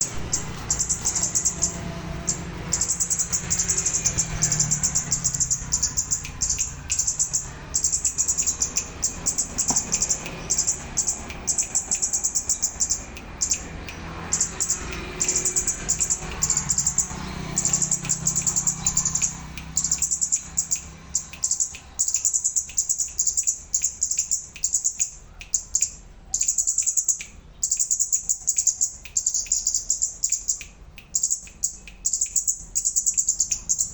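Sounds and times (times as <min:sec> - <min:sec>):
bird chattering calls: 0:00.0 - 0:33.9.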